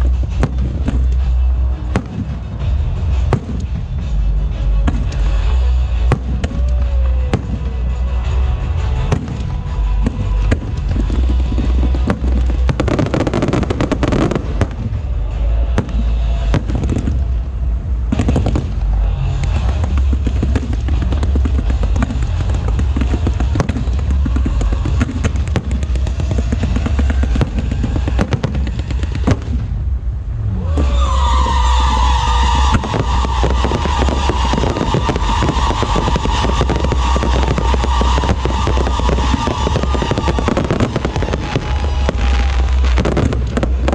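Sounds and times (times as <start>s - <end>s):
continuous low rumble: 0.0s - 43.9s
fireworks bangs and crackling: 0.0s - 43.9s.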